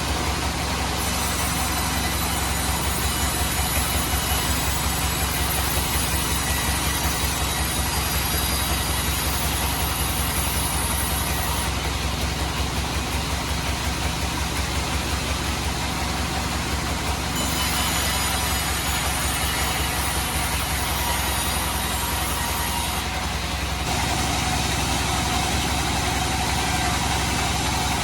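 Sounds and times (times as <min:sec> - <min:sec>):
bandsaw sawing wood: 0:00.0 - 0:28.0.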